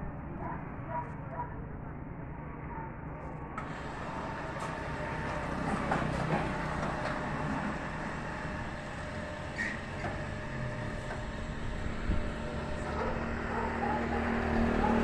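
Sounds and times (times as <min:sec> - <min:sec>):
mechanical rumble: 0:02.2 - 0:15.0.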